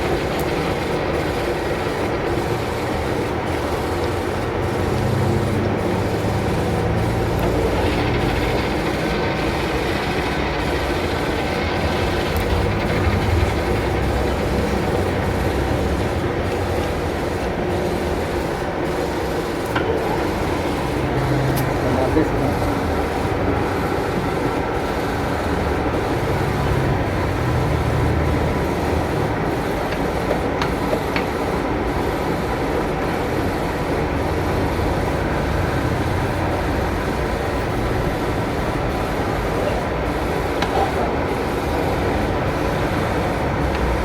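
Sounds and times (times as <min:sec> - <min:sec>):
machinery running: 0:00.0 - 0:44.0.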